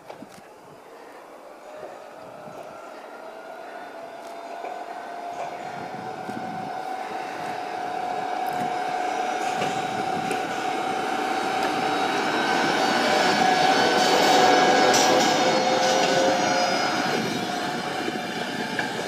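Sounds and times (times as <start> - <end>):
electric locomotive motor whine: 1.2 - 19.0
train running on snowy track: 1.2 - 19.0.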